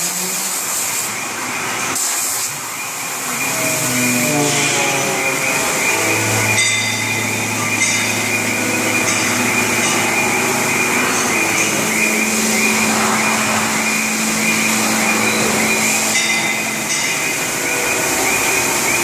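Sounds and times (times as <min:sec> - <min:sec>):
cnc machine running: 0:00.0 - 0:19.0
pulsing high whine: 0:00.0 - 0:19.0.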